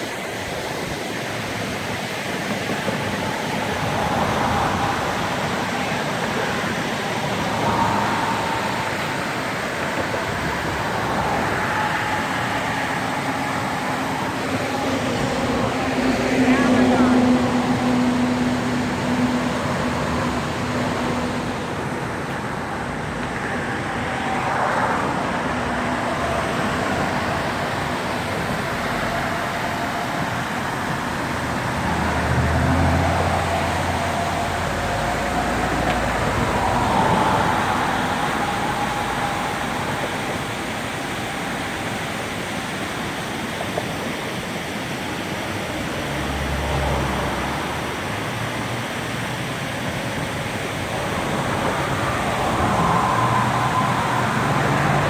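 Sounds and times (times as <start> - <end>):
road traffic noise: 0.0 - 55.0
vehicles passing: 0.0 - 55.0.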